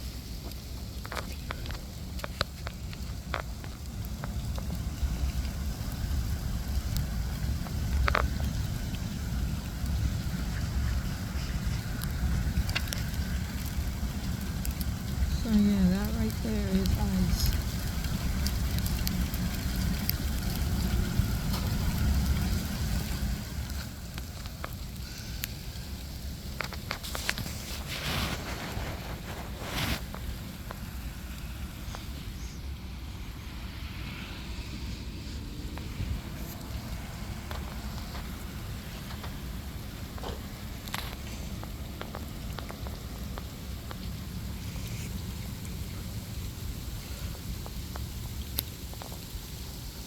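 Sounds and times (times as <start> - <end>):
rain and ice pellets pattering: 0.0 - 50.0
wind rumbling on microphone: 0.0 - 50.0.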